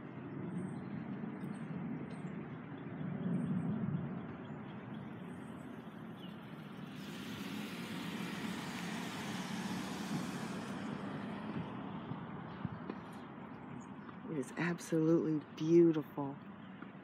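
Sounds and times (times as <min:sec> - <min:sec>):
road vehicle rumble: 0:00.0 - 0:17.0.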